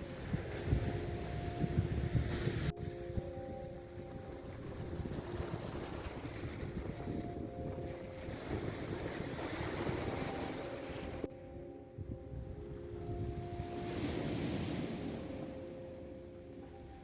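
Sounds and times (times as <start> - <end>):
sea surf washing on shore: 0.0 - 11.3, 13.1 - 17.0
wind buffeting microphone: 0.0 - 17.0.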